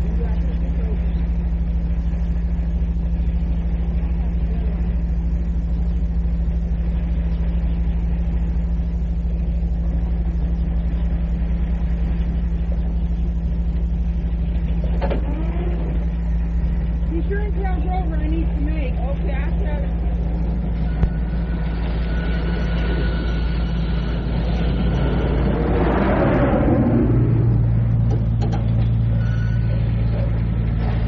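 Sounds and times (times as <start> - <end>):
low drone: 0.0 - 31.0.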